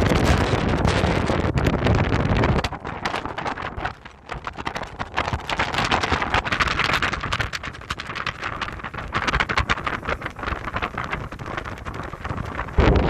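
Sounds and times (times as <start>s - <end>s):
crackling and rustling: 0.0s - 13.0s
wind buffeting microphone: 0.0s - 13.0s.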